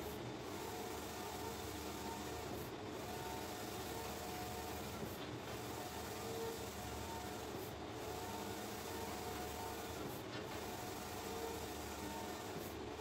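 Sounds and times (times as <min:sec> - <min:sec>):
whir of motors and fans: 0:00.0 - 0:13.0.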